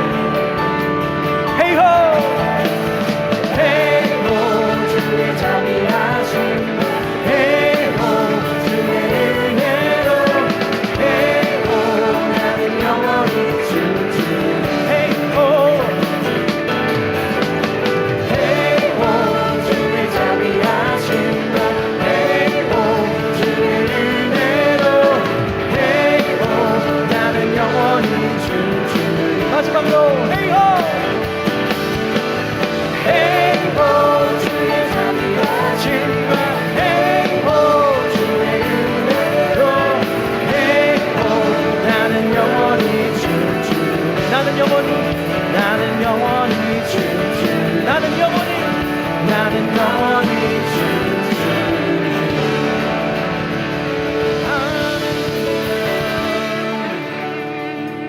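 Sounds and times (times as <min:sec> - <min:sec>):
worship band music: 0:00.0 - 0:58.0.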